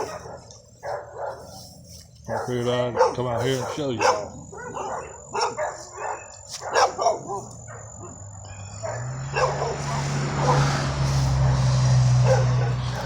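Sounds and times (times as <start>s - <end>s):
dog barking: 0.0s - 1.6s, 2.2s - 10.8s, 11.4s - 13.0s.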